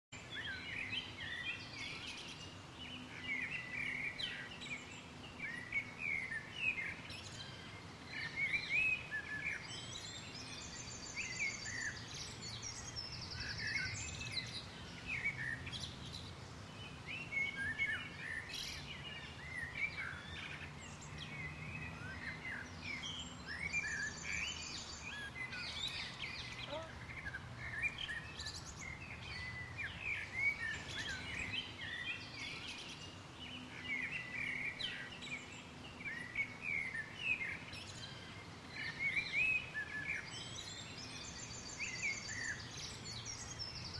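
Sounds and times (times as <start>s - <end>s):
small birds chirping and twittering: 0.1s - 43.9s.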